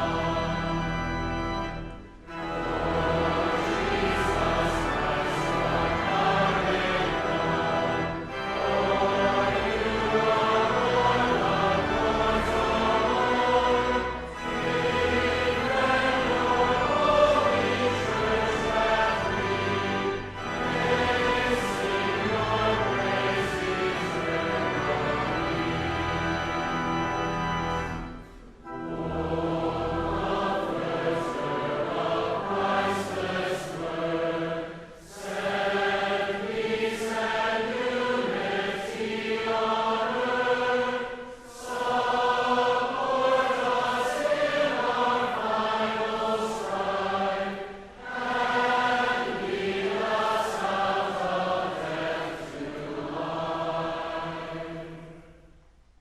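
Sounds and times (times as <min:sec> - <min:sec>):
choir singing a hymn: 0:00.0 - 0:55.7.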